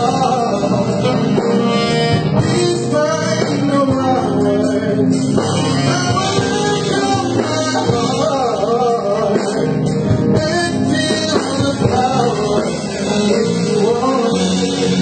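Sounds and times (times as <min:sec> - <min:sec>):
live keyboard and band: 0:00.0 - 0:15.0
man singing into microphone: 0:00.0 - 0:15.0.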